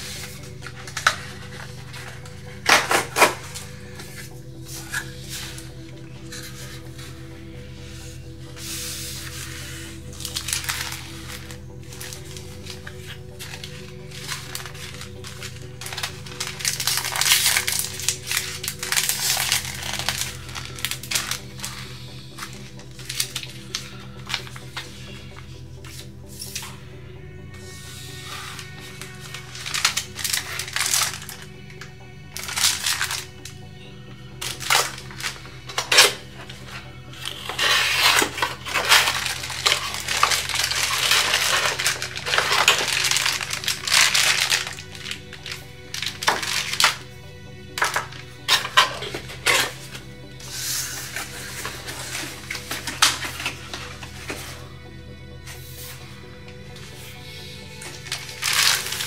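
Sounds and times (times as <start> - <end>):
plastic packaging crinkling: 0.0 - 7.2, 8.6 - 26.7, 28.2 - 31.6, 32.3 - 33.5, 34.4 - 47.1, 47.7 - 54.6, 57.6 - 59.0
papers rustling: 0.0 - 26.8, 27.6 - 54.7, 55.4 - 59.0
background music: 0.0 - 59.0.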